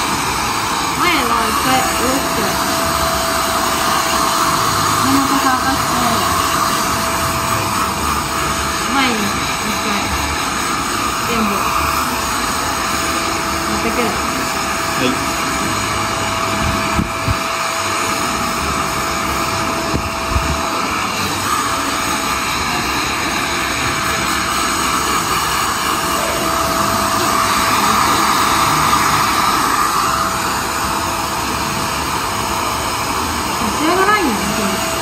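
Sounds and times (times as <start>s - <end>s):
hair dryer blowing: 0.0s - 35.0s.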